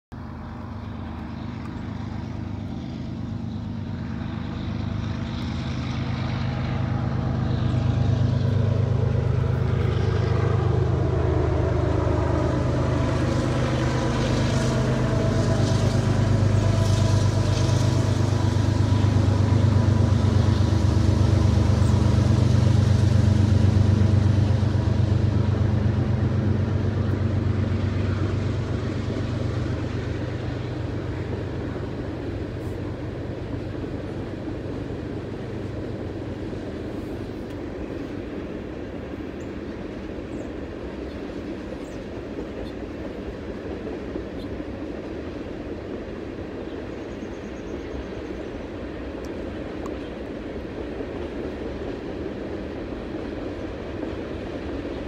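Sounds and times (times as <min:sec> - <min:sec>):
diesel locomotive engine drone: 0:00.1 - 0:55.0.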